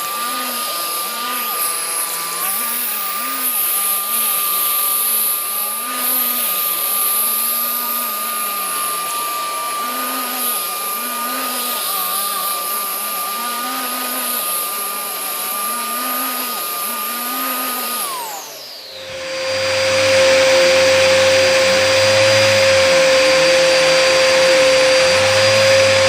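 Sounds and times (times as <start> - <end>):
vacuum cleaner motor whine: 0.0 - 26.0.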